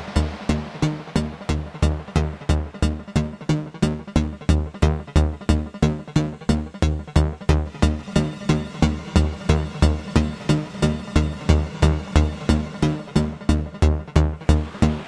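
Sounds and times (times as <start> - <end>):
synthesizer sequenced low notes: 0.0 - 15.0.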